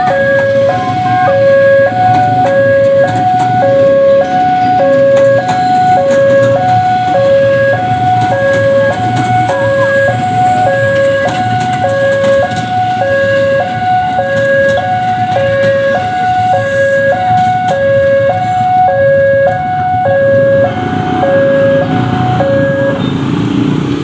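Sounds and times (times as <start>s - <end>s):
two-tone crossing alarm: 0.0s - 23.6s
traffic noise: 0.0s - 24.0s.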